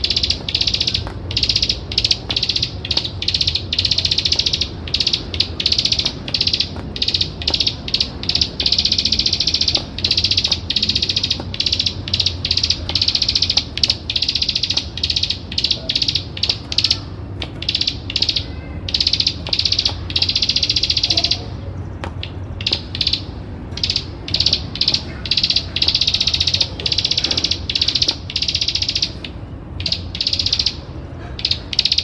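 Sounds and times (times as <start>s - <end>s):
bird buzzy clicking trill: 0.0s - 32.0s
steady low hum: 0.0s - 32.0s.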